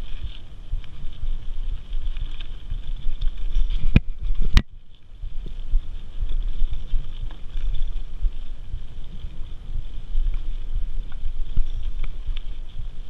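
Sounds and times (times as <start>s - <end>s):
bike rumbling and rattling: 0.0s - 13.0s.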